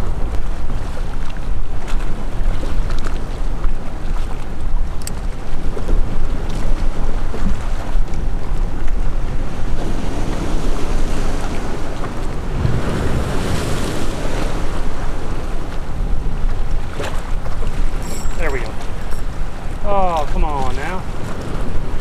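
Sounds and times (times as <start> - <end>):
choppy water washing around boat: 0.0 - 22.0
wind on microphone: 0.0 - 22.0.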